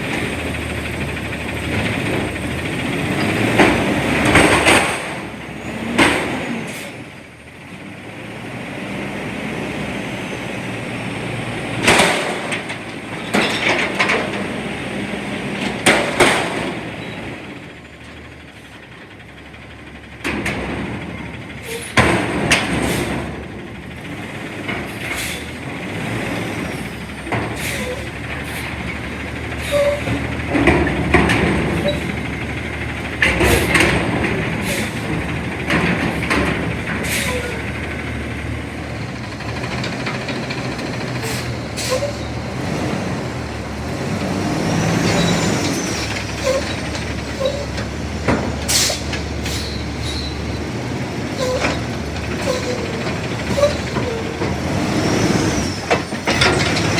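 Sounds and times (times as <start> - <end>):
metal dumpster banging and clanking: 0.0 - 7.3, 11.4 - 17.4, 20.2 - 56.9
garbage truck engine running: 0.0 - 56.9.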